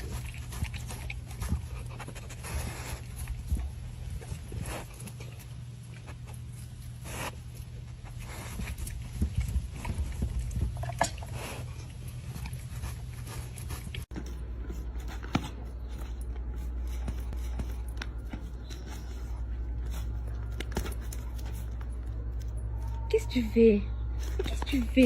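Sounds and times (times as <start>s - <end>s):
dog chewing and biting: 0.0s - 23.0s
steady low hum: 0.0s - 25.0s.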